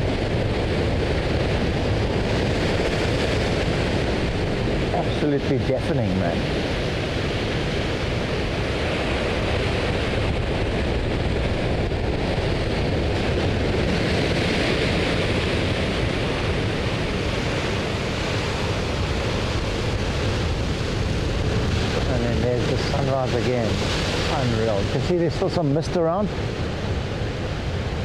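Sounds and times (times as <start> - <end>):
surf crashing on rocks: 0.0 - 28.0.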